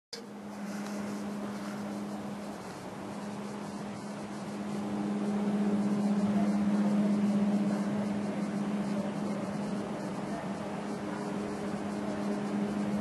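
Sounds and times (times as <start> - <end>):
electric train hum: 0.1 - 13.0.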